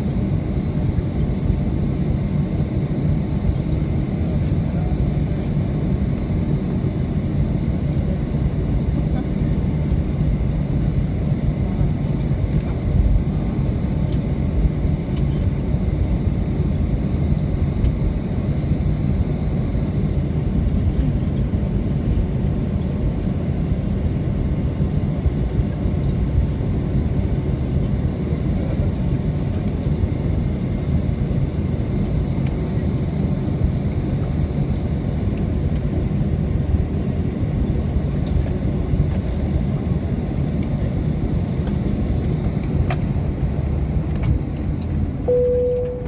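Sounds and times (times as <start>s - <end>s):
aircraft cabin low rumble: 0.0s - 46.0s
faint high engine whine: 0.0s - 46.0s.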